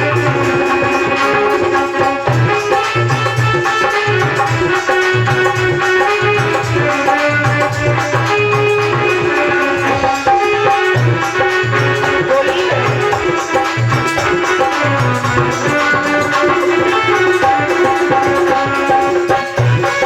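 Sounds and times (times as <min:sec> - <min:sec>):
hand drum beat: 0:00.0 - 0:20.0
held melodic notes: 0:00.0 - 0:20.0.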